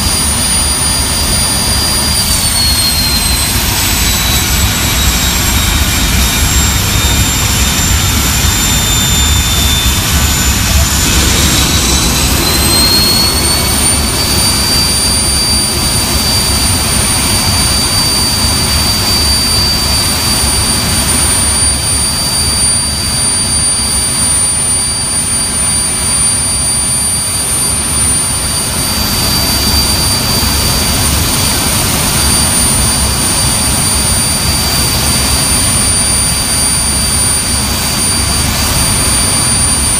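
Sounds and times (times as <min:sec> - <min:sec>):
high jet engine whine: 0:00.0 - 0:39.9
jet engines rumbling: 0:00.0 - 0:39.9.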